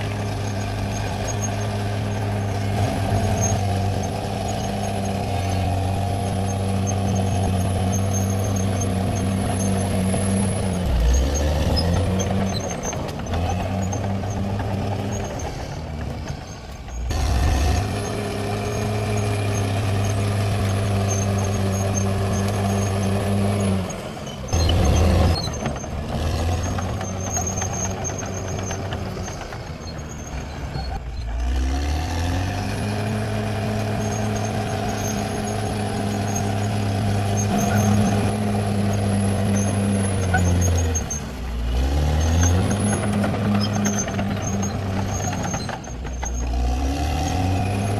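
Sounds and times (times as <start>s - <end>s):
bulldozer engine revving: 0.0s - 47.9s.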